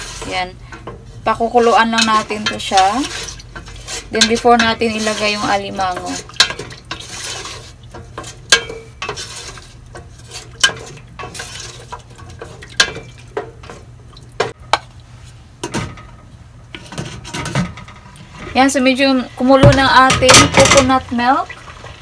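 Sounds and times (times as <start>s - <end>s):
spatula scraping metal pot: 0.0s - 13.9s, 16.7s - 21.2s.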